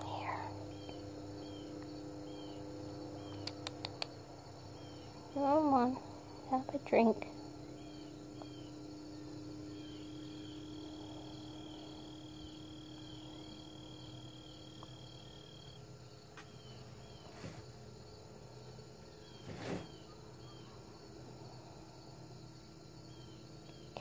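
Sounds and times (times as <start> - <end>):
crickets chirping: 0.0 - 24.0
faint low hum: 0.0 - 24.0
high continuous insect trill: 0.0 - 24.0.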